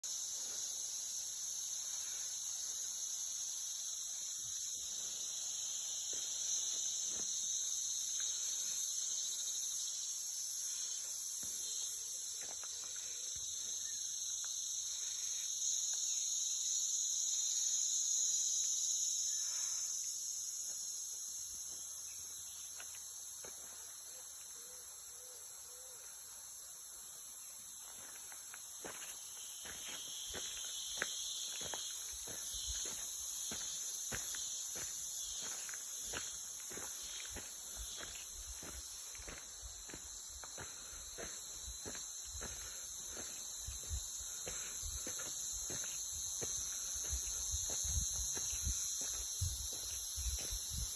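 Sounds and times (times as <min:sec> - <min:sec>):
insects buzzing shrilly: 0:00.0 - 0:50.9.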